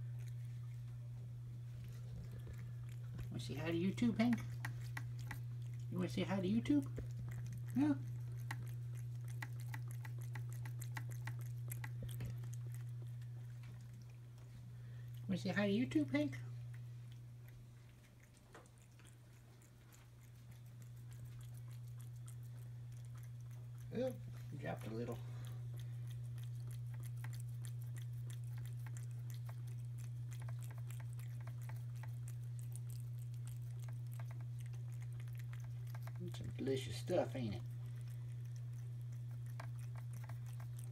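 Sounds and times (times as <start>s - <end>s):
cat chewing wet food: 0.0s - 40.9s
steady low hum: 0.0s - 40.9s.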